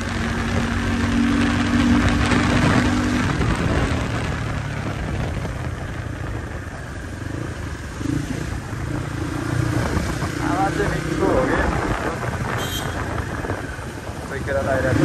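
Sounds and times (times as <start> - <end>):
motorcycle engine: 0.0 - 15.0
wind rushing past microphone: 0.0 - 15.0.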